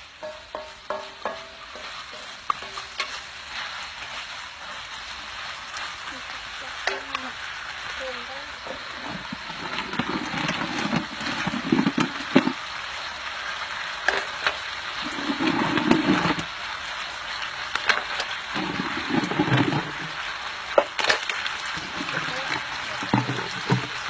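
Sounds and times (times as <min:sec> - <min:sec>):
food sizzling as it fries: 0:00.0 - 0:24.0.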